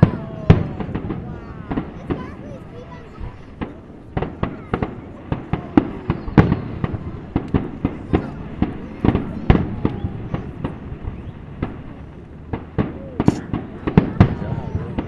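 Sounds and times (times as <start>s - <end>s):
fireworks banging: 0.0s - 15.0s.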